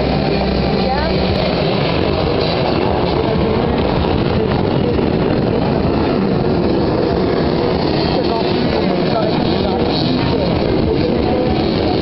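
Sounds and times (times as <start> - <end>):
motorcycles revving and accelerating: 0.0 - 12.0.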